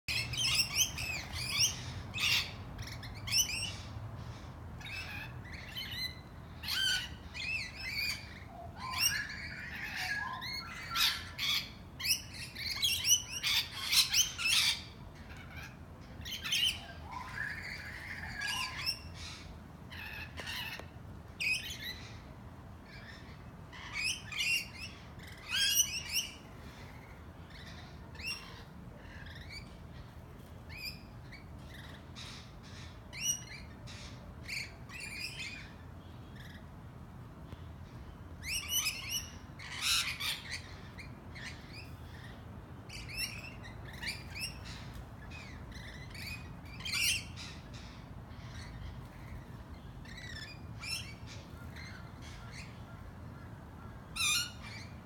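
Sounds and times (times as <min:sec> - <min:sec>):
parrots squawking and chattering: 0:00.1 - 0:36.8, 0:37.8 - 0:55.0.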